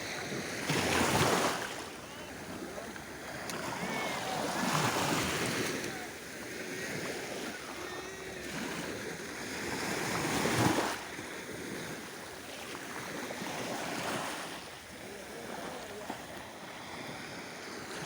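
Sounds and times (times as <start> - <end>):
gentle sea waves washing on shore: 0.0 - 18.0.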